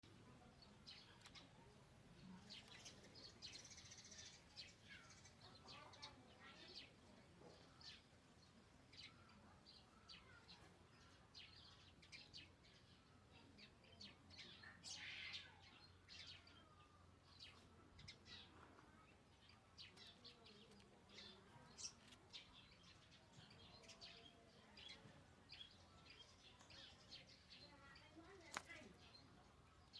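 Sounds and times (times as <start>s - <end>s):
faint bird chirps: 0.0s - 29.9s.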